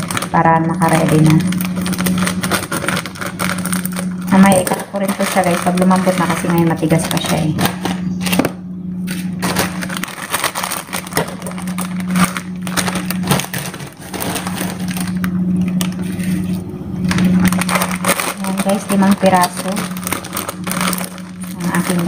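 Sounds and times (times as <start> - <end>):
dry noodles crackling and snapping: 0.0 - 22.0
low hum: 0.0 - 22.0
plastic packaging rustling: 0.0 - 22.0.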